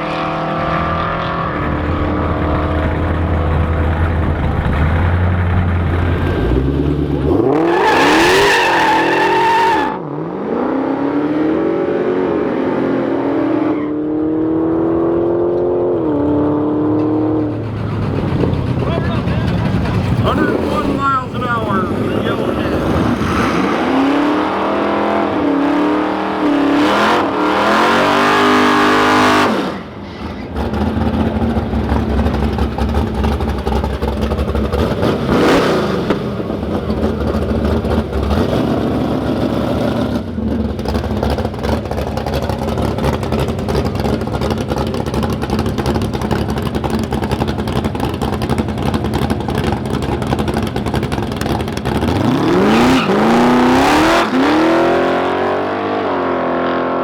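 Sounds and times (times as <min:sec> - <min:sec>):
drag racing engines revving: 0:00.0 - 0:57.0.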